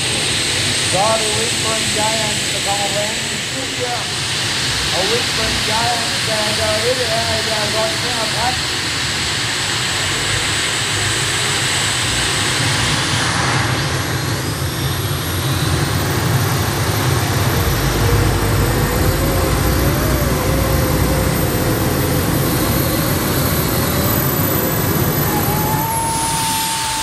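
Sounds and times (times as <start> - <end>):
high engine whine: 0.0 - 27.0
tractor engine at full power: 0.0 - 27.0.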